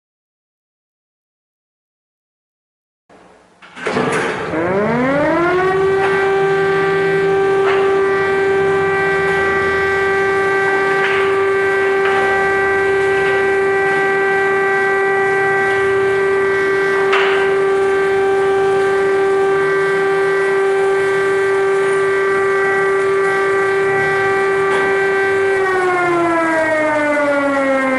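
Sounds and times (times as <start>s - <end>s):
air-raid siren wailing: 4.4s - 27.9s.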